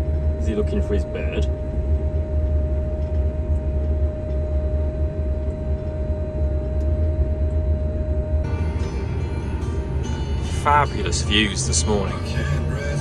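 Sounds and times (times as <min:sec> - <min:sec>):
steady high whine: 0:00.0 - 0:13.0
tractor engine droning: 0:00.0 - 0:13.0.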